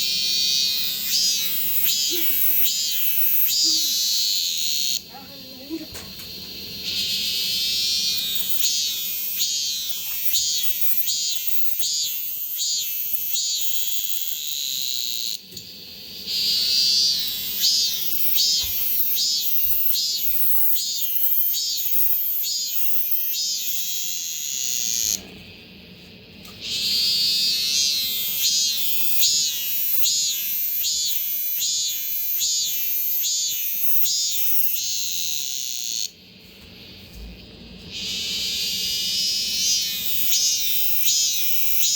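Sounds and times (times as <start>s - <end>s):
cicadas pulsed song: 0.0s - 41.9s.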